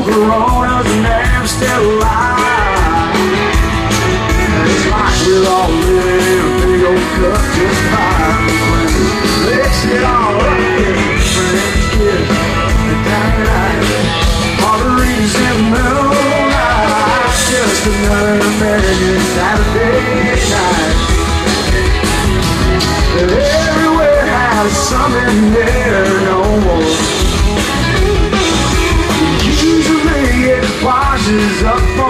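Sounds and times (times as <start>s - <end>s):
live country rock band: 0.0s - 32.0s.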